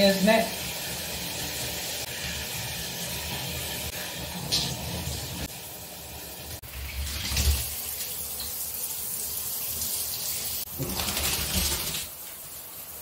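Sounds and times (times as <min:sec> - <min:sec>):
water running from shower: 0:00.0 - 0:13.0.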